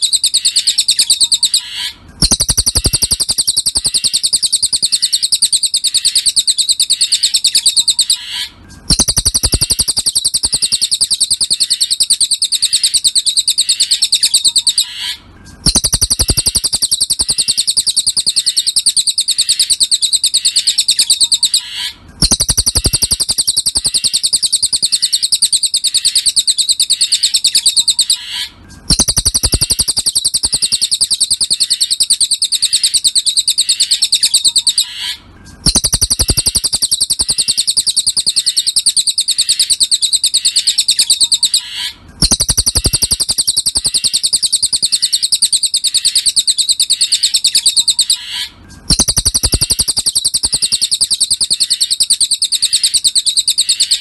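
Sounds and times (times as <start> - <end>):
bird song recording: 0.0 - 54.0.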